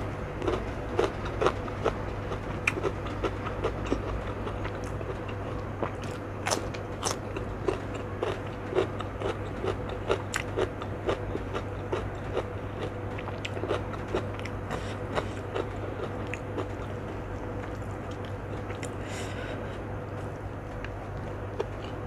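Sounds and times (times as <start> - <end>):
steady low hum: 0.0 - 22.0
chewing crunchy food: 0.4 - 22.0.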